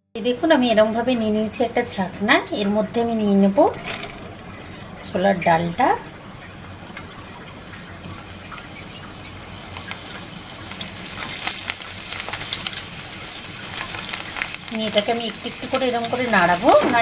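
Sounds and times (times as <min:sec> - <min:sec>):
lentils deep-frying in oil: 0:00.5 - 0:17.0.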